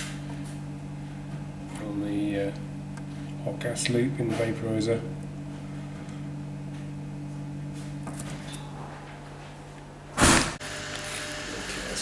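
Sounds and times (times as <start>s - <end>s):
low electrical hum of machine: 0.0s - 12.0s.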